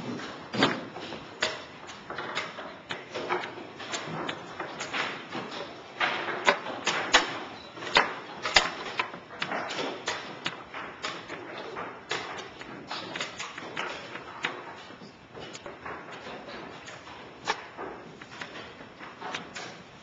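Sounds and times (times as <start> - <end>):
chess pieces knocking on board: 0.2 - 19.8.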